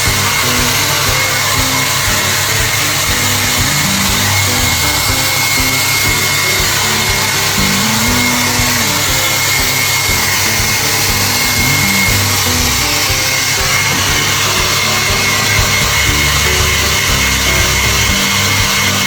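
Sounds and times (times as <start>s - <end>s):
background music: 0.0s - 19.0s
hair dryer blowing: 0.0s - 19.0s.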